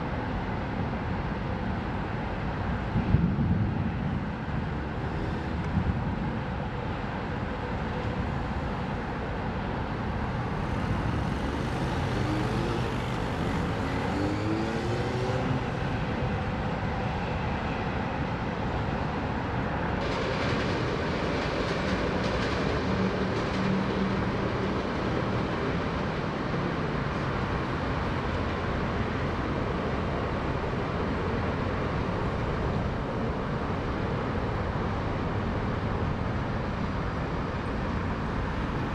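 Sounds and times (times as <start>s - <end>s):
heavy highway traffic hum: 0.0s - 38.9s
vehicles passing: 0.0s - 38.9s.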